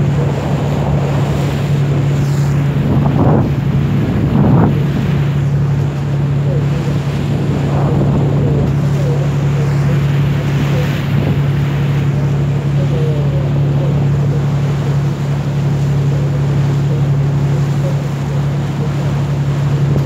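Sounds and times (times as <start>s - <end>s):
boat engine drone: 0.0s - 20.0s
water rushing along hull: 0.0s - 20.0s
wind buffeting microphone: 0.0s - 20.0s.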